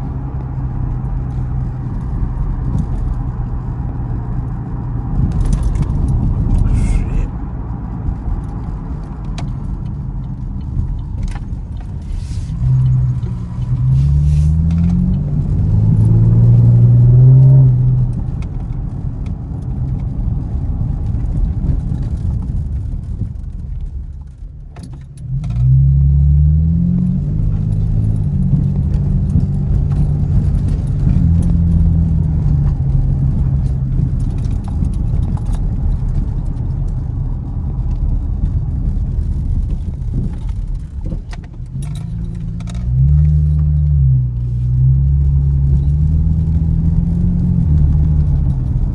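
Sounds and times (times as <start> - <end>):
car engine accelerating: 0.0 - 48.9.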